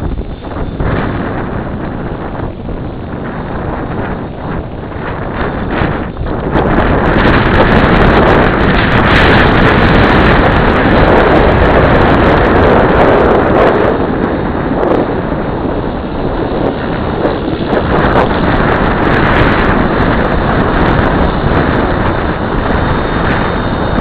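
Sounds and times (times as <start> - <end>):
helicopter rotor whoosh: 0.0 - 24.0
wind buffeting microphone: 0.0 - 24.0.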